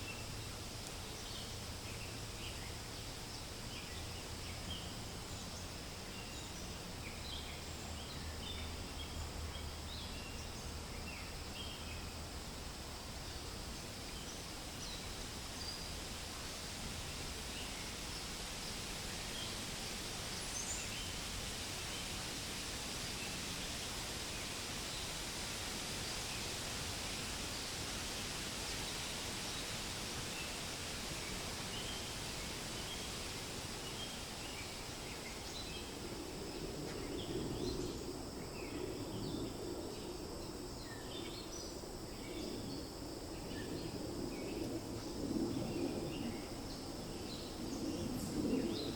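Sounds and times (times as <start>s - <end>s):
wind rustling tree leaves: 0.0s - 48.9s.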